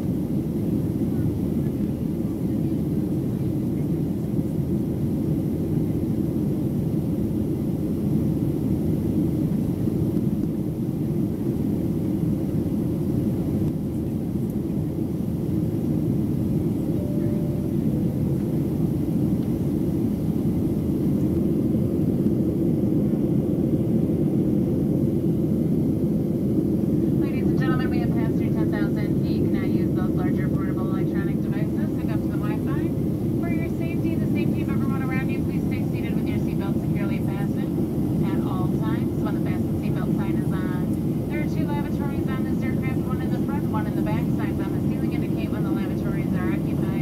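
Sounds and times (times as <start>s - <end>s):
airplane cabin noise: 0.0s - 47.0s.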